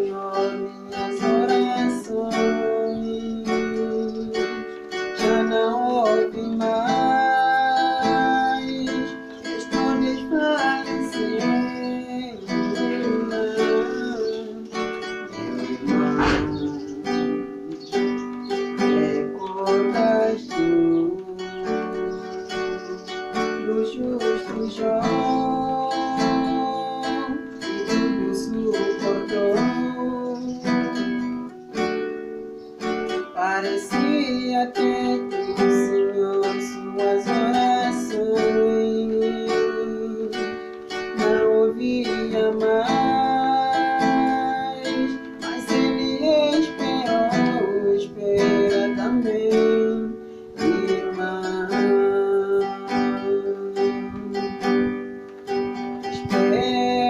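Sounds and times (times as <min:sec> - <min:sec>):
plucked acoustic string music: 0:00.0 - 0:57.0.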